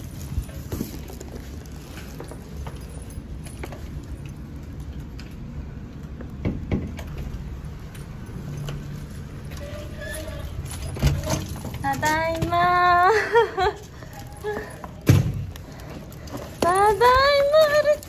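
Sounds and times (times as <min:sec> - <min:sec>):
keys jangling: 0:00.0 - 0:05.3, 0:07.9 - 0:12.8, 0:13.6 - 0:18.0.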